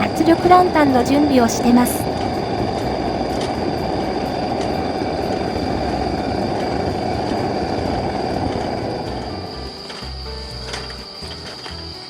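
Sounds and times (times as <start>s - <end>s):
pressure lantern burner roaring: 2.0s - 12.0s.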